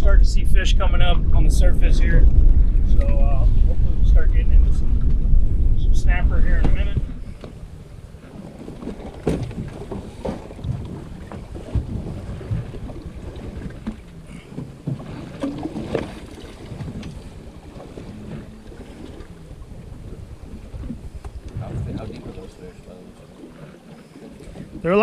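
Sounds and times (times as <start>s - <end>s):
water lapping against boat hull: 0.0s - 25.0s
wind buffeting microphone: 0.0s - 25.0s.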